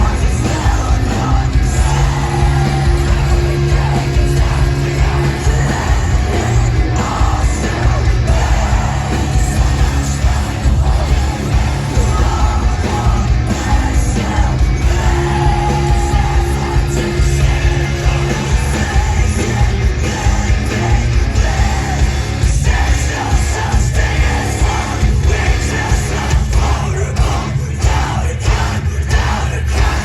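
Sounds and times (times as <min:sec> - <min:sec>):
live rock band playing: 0:00.0 - 0:30.0
person singing and yelling: 0:00.0 - 0:30.0.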